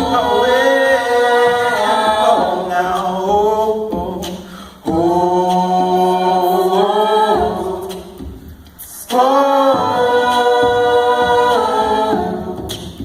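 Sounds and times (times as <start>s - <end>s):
vocal ensemble singing: 0.0s - 13.0s.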